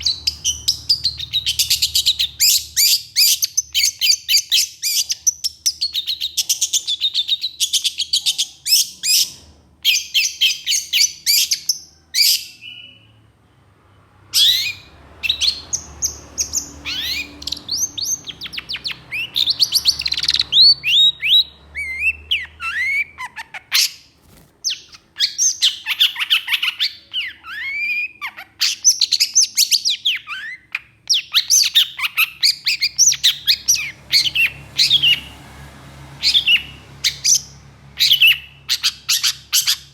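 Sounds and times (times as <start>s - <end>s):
bird harsh chattering song: 0.0s - 13.2s, 14.4s - 35.4s, 36.2s - 39.9s.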